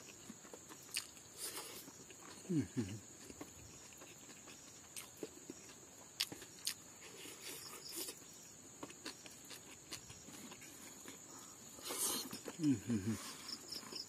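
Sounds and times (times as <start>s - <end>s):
soft chewing: 0.0s - 14.0s.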